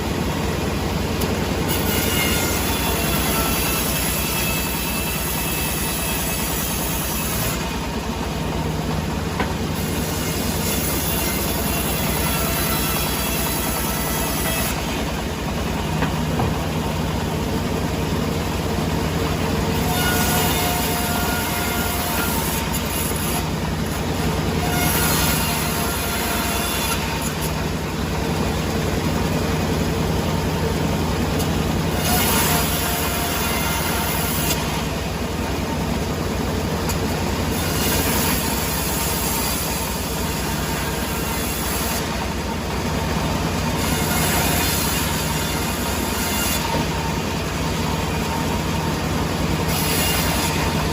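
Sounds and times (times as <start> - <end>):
sawmill machinery humming: 0.0 - 50.9.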